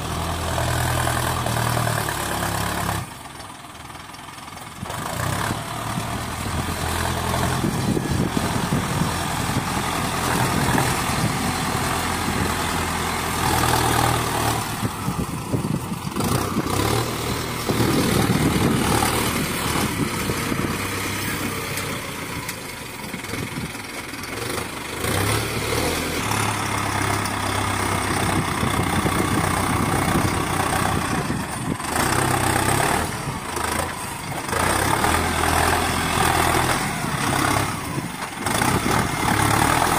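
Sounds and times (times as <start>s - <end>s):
tractor diesel engine working: 0.0s - 39.9s.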